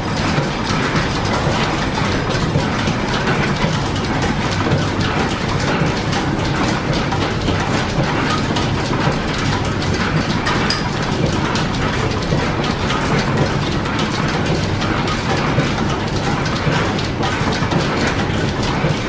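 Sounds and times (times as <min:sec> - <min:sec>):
belts and gears ticking: 0:00.0 - 0:19.0
lathe mechanical clatter: 0:00.0 - 0:19.0.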